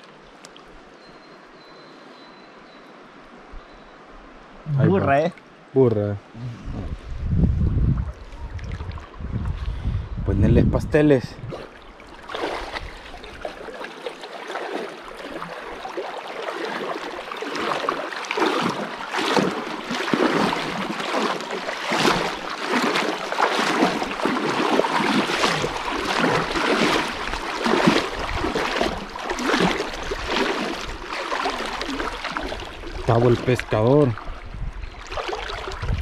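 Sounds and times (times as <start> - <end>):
river water splashing: 0.0 - 3.4, 8.0 - 9.2, 11.0 - 36.0
stream rushing: 0.0 - 6.4, 11.0 - 36.0.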